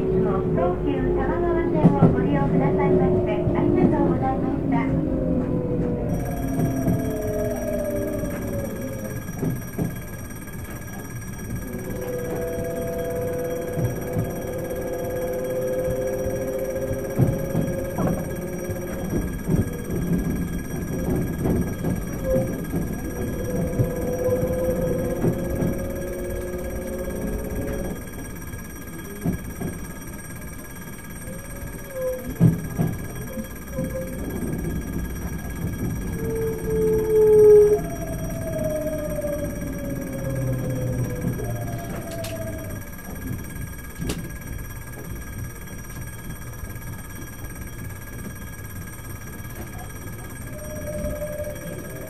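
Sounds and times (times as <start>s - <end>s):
train cab rumble: 0.0s - 52.0s
two steady tones: 0.0s - 52.0s
warning bell ringing: 0.0s - 52.0s.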